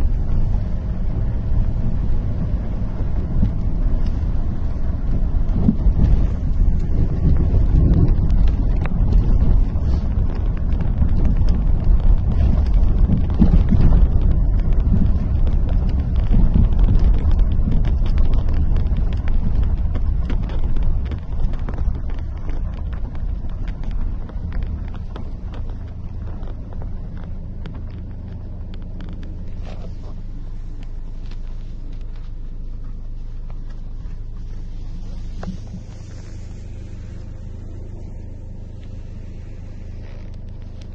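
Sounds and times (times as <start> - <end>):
car engine and tyres rumbling: 0.0 - 40.9
small clicks and rattles: 0.0 - 40.9.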